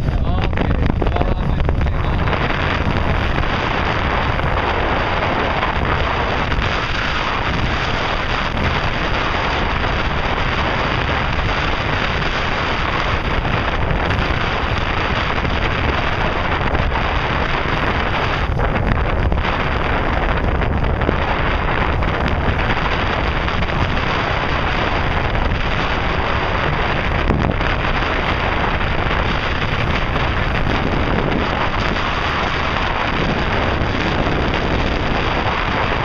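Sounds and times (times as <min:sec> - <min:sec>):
water rushing: 0:00.0 - 0:36.0
wind buffeting microphone: 0:00.0 - 0:36.0.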